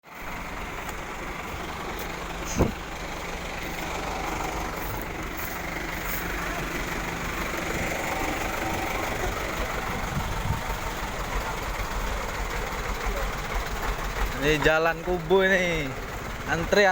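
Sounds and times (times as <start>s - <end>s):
vehicle engines running: 0.0s - 16.9s.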